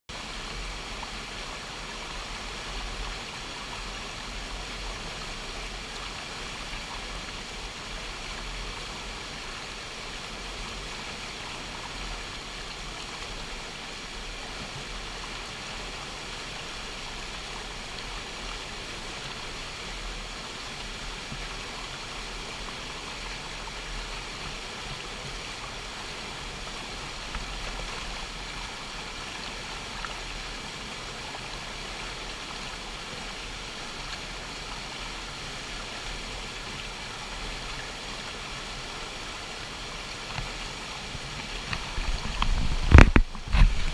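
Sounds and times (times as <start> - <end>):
floodwater rushing: 0.2 - 43.9.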